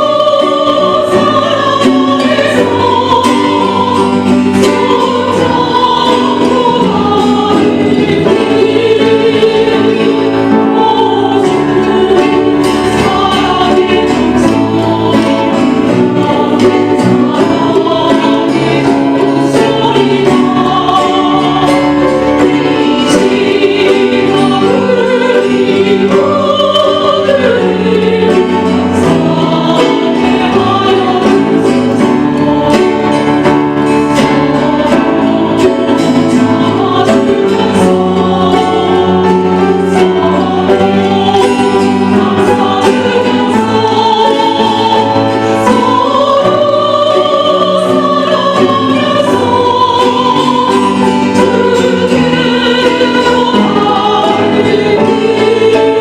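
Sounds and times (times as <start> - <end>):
strummed guitar: 0.0 - 56.0
strummed ukulele: 0.0 - 56.0
vocal ensemble singing gospel: 0.0 - 56.0.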